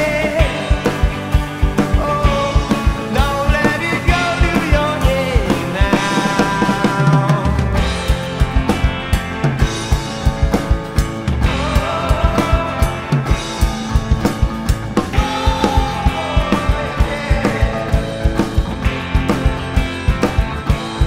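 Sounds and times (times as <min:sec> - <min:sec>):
song with drum beat and melody: 0:00.0 - 0:21.0.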